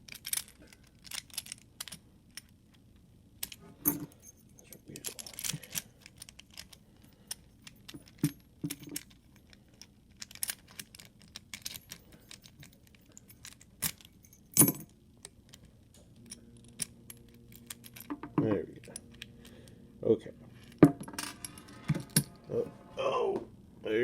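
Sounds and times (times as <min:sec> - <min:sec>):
padlock parts clicking and rattling: 0:00.0 - 0:19.7, 0:20.5 - 0:22.4.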